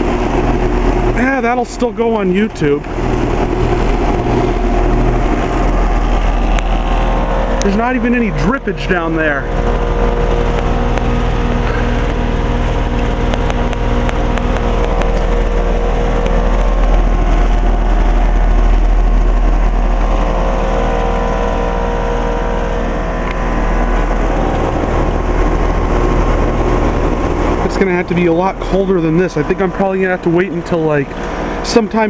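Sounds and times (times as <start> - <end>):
heat pump mechanical hum: 0.0 - 32.0.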